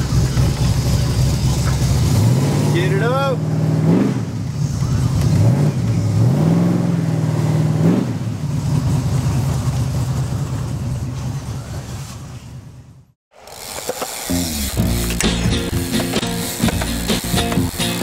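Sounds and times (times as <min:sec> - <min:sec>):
car engine accelerating: 0:00.0 - 0:11.9, 0:14.2 - 0:18.0.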